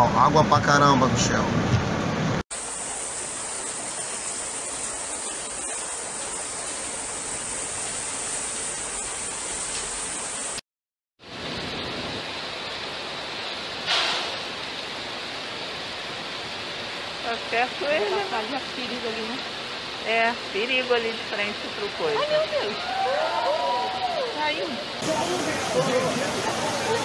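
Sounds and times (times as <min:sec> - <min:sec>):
heavy rain hissing: 0:02.5 - 0:10.6, 0:11.3 - 0:27.0.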